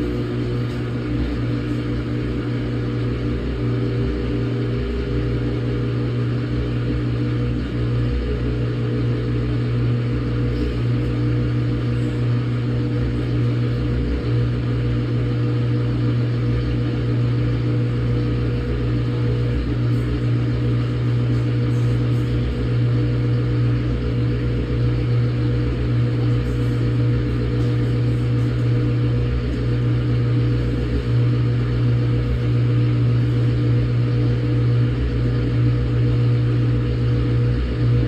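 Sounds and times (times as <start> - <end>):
washing machine running: 0.0 - 38.0.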